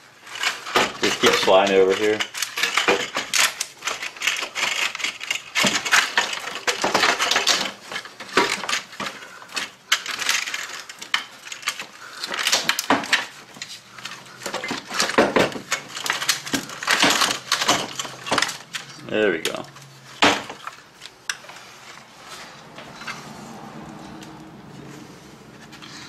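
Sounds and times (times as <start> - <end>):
metal clinks and scrapes: 0.0 - 26.0.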